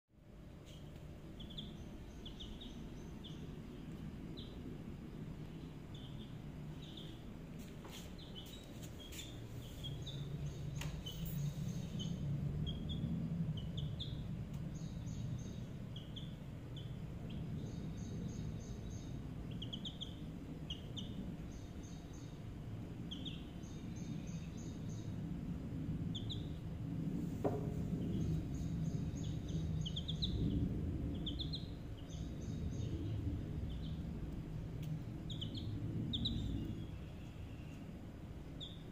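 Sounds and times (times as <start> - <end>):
low background rumble: 0.1 - 38.9
chicks peeping: 0.6 - 4.6, 5.4 - 22.4, 23.0 - 25.2, 26.1 - 26.6, 27.5 - 37.9, 38.5 - 38.9.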